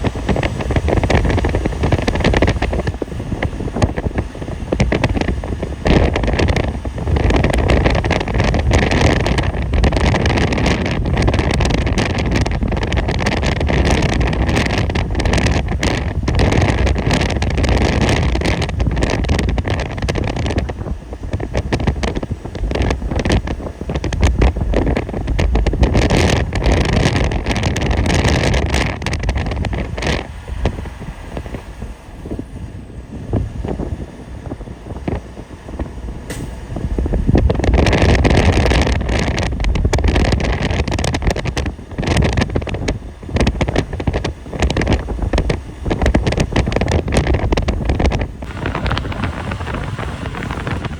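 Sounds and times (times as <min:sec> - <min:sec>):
vehicle road and engine noise: 0:00.0 - 0:50.9
wind buffeting microphone: 0:00.0 - 0:50.9.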